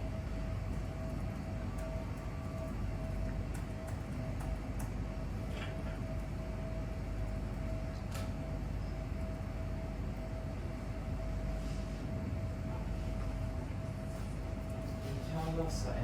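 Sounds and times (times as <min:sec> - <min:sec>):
low rumble with hum: 0:00.0 - 0:16.0.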